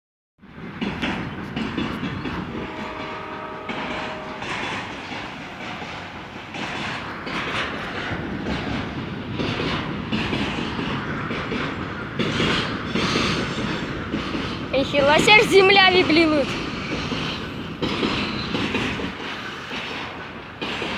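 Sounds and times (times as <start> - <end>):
train rumbling past: 0.4 - 20.9
wheels clacking over rail joints: 0.4 - 20.9.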